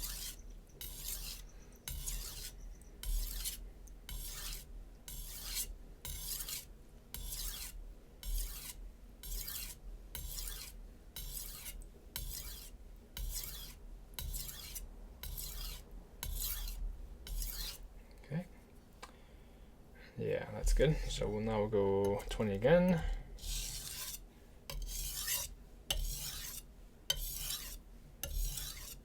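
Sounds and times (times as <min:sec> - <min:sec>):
knife stropping scrapes: 0:00.0 - 0:17.9, 0:23.4 - 0:29.0.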